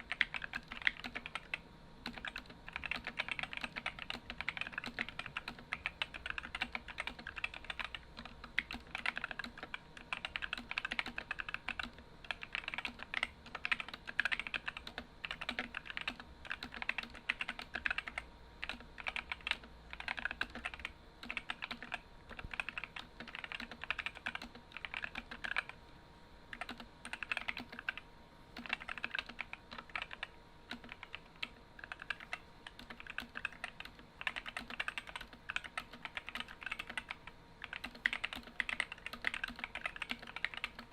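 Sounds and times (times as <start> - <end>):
fast typing on mechanical keyboard: 0.0 - 25.8, 26.5 - 40.9.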